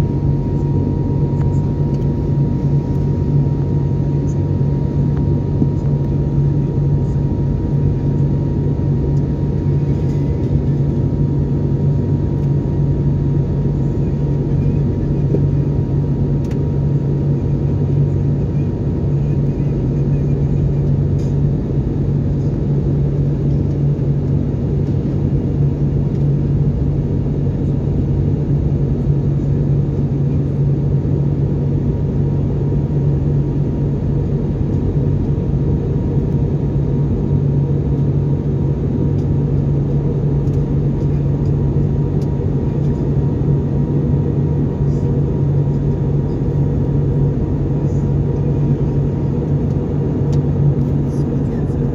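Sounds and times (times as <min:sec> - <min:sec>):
airliner cabin drone: 0:00.0 - 0:51.9.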